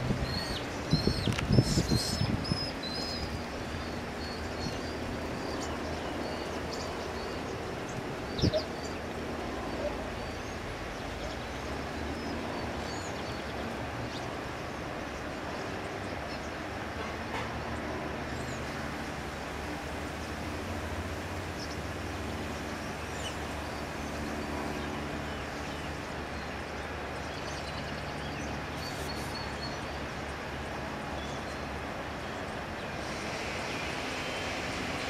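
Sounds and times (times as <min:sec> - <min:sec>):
traffic engine rumble: 0:00.0 - 0:35.0.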